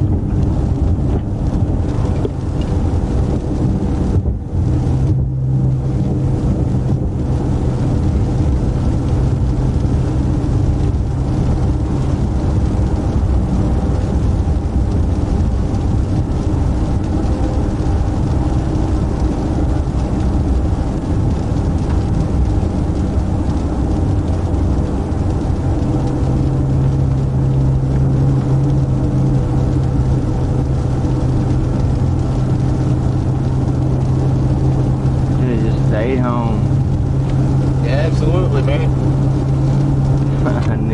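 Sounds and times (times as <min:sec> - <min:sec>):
car cabin engine hum: 0:00.0 - 0:40.9.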